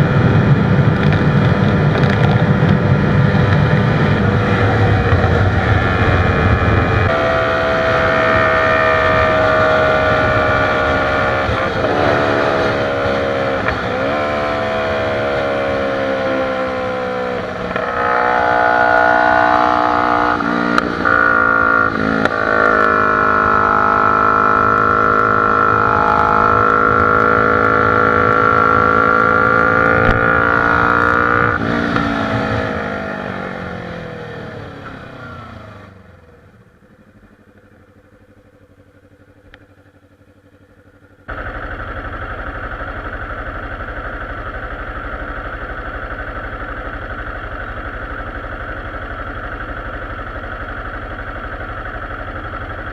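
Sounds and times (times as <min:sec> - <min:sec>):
motorcycle engine at high revs: 0:00.0 - 0:52.9.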